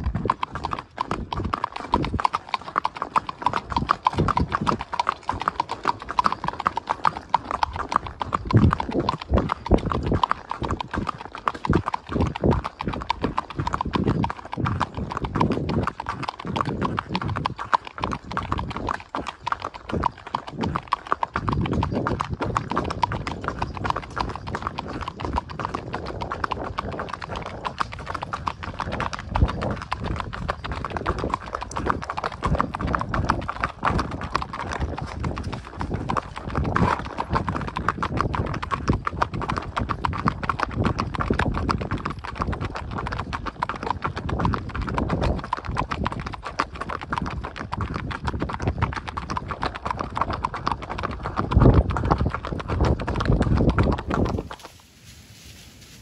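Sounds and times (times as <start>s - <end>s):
horse hooves clip-clopping on asphalt: 0.0s - 56.0s.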